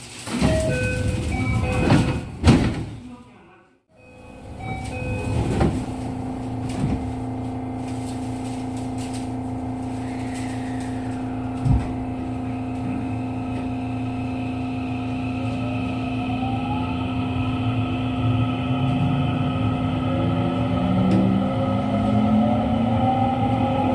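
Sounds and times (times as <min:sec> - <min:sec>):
train equipment hum: 0:00.0 - 0:03.2, 0:04.0 - 0:23.9
train inverter and motor whine: 0:04.0 - 0:23.9.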